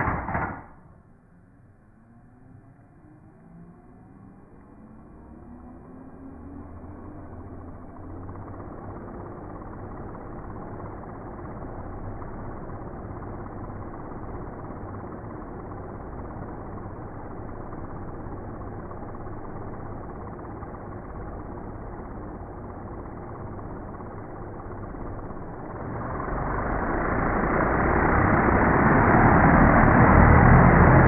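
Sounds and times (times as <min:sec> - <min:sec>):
drone propellers whirring: 0:00.0 - 0:00.7, 0:01.8 - 0:31.0.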